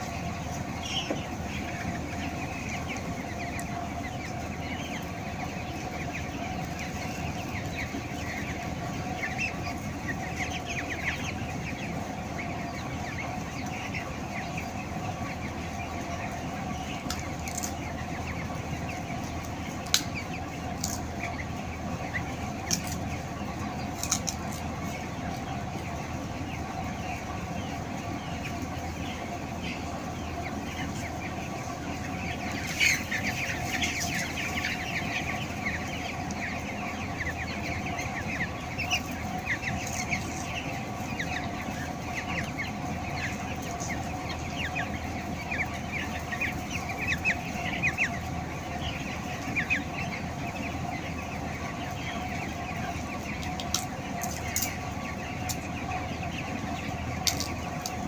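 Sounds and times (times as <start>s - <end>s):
chickens peeping and chirping: 0.0s - 58.0s.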